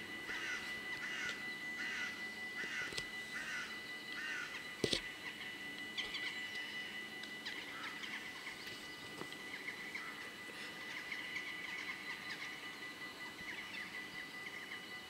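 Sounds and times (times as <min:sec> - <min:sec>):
birds chirping: 0:00.0 - 0:15.0
birds calling harshly: 0:00.2 - 0:15.0.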